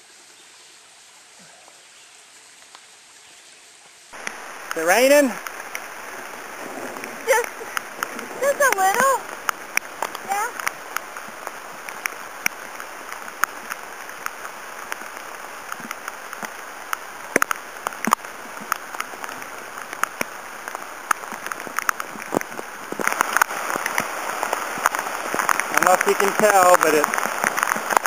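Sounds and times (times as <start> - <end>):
rain drops hitting: 0.0 - 28.0
rain hiss: 0.0 - 28.0.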